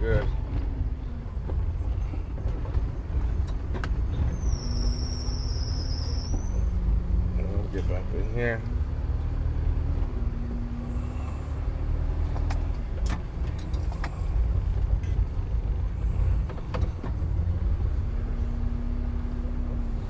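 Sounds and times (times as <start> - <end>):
truck engine rumble: 0.0 - 20.0.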